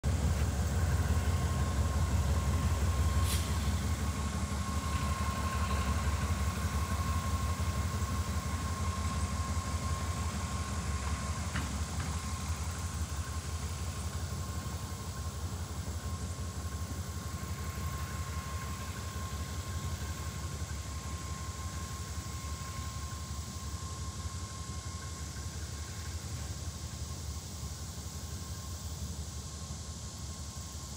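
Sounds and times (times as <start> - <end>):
diesel locomotive engine running: 0.0 - 30.9.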